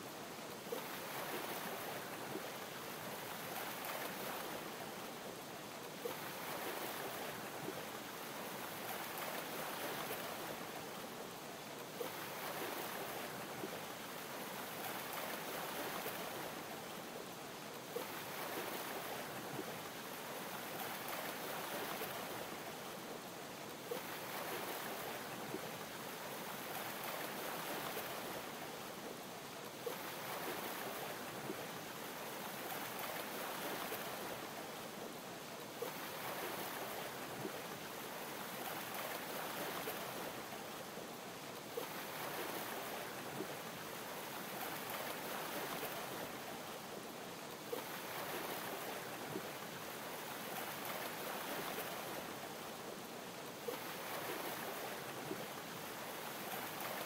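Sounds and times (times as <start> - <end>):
waves lapping against hull: 0.3 - 57.0.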